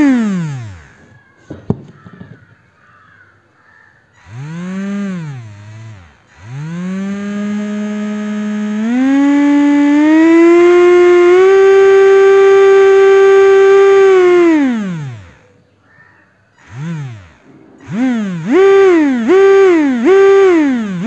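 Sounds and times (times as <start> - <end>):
small electric motor whining: 0.0 - 1.2, 4.2 - 15.6, 16.6 - 21.0.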